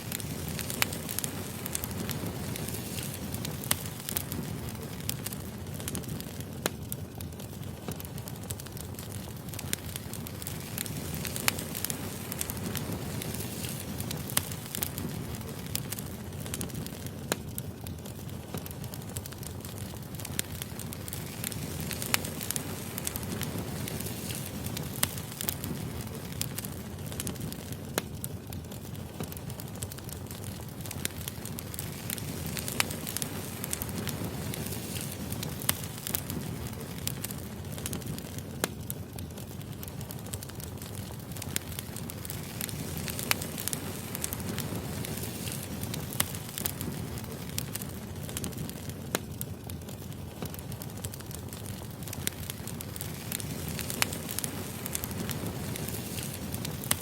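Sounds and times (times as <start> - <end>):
firewood burning and crackling: 0.0 - 57.0.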